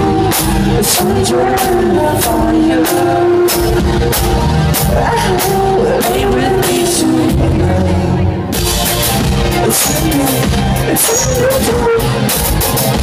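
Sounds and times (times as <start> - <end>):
lead vocals singing: 0.0 - 8.6, 9.4 - 12.2
drums beating: 0.0 - 13.0
electric guitar: 0.0 - 13.0
keyboards: 0.0 - 13.0.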